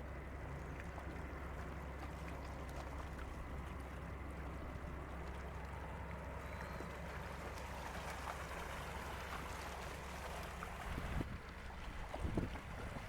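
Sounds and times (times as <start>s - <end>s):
ferry engine rumble: 0.0s - 13.0s.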